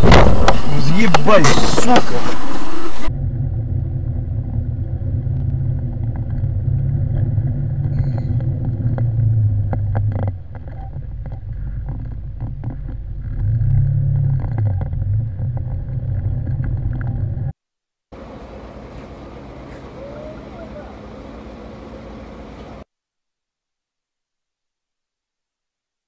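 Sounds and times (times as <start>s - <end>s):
car engine and road noise hum: 0.0s - 22.9s.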